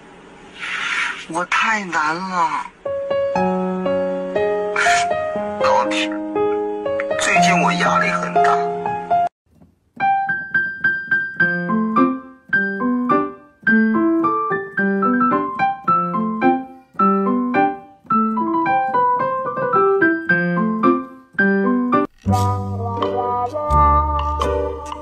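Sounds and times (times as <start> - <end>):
light piano melody: 2.8 - 9.3, 9.9 - 25.0.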